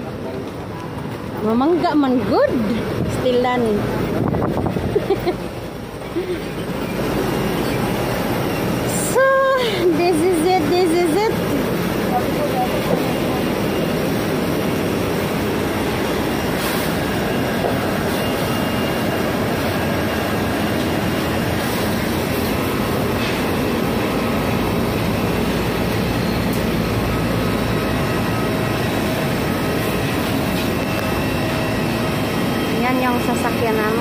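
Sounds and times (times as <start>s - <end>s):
jet aircraft and equipment roar: 0.0s - 34.0s.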